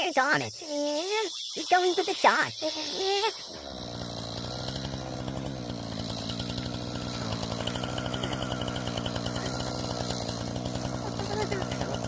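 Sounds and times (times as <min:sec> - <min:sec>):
chainsaw engine running: 0:02.1 - 0:12.0.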